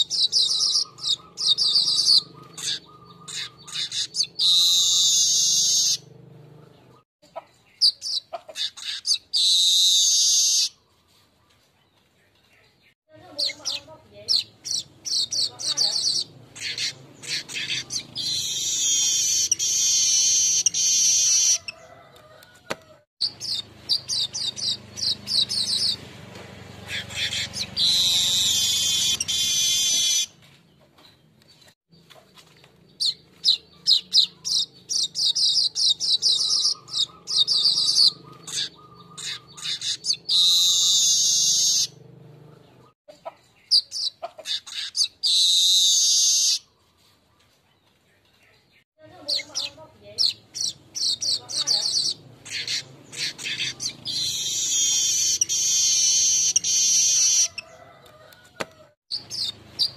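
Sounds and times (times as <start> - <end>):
weaver bird singing: 0.0 - 7.0, 7.6 - 22.1, 23.2 - 57.8, 59.1 - 59.9.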